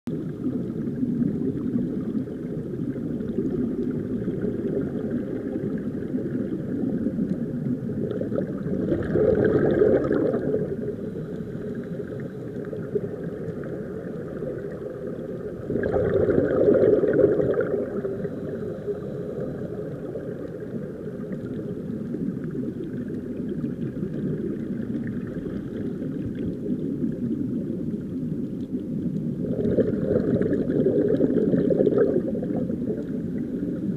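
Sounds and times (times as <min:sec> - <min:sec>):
underwater rumble and bubbling: 0:00.1 - 0:33.9.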